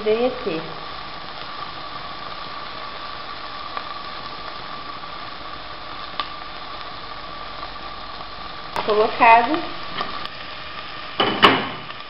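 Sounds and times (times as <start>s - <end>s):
food frying in butter: 0.0s - 12.0s.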